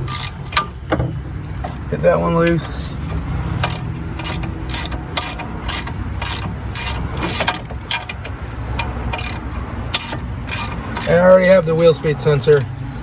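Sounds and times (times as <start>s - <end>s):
hand ratchet clicking: 0.0s - 1.8s, 2.6s - 12.7s.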